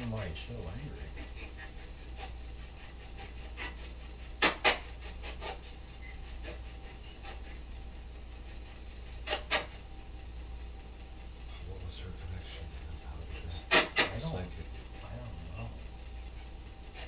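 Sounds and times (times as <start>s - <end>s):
faint ticks: 0.0s - 17.0s
steady low hum: 0.0s - 17.0s.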